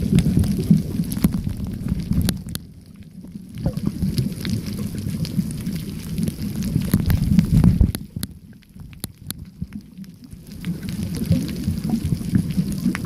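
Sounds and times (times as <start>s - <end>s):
muffled underwater water rumble: 0.0s - 13.0s.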